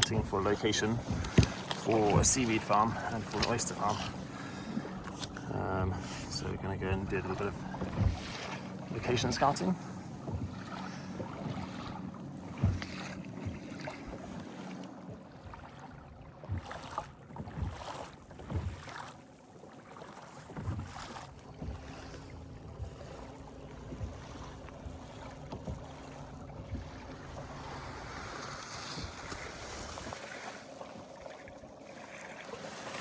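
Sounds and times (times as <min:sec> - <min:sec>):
water and gear knocking on hull: 0:00.0 - 0:33.0.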